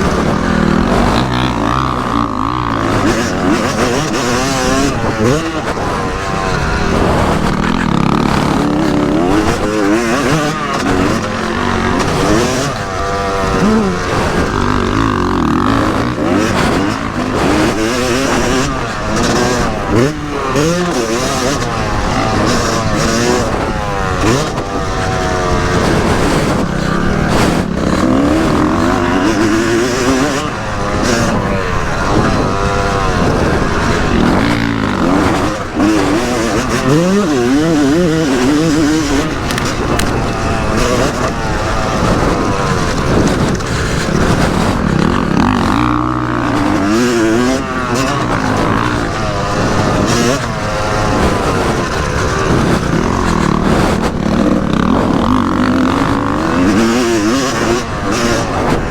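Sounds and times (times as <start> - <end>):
motocross engine revving: 0.0 - 58.9.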